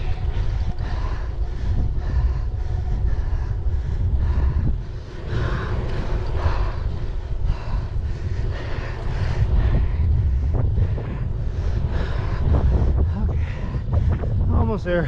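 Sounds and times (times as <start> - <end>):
low uneven rumble of bike: 0.0 - 15.0
wind buffeting microphone: 0.0 - 15.0.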